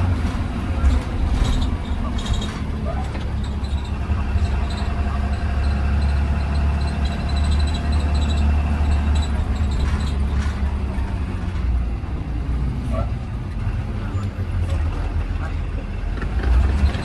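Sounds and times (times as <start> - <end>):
bus engine rumbling: 0.0 - 17.0
road noise: 0.0 - 17.0.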